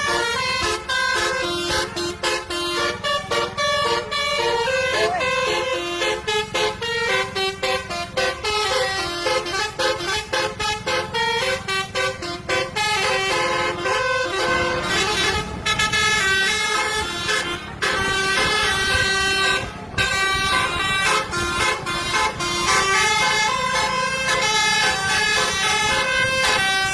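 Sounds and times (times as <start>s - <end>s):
multi-tone bus air horn tune: 0.0s - 26.9s.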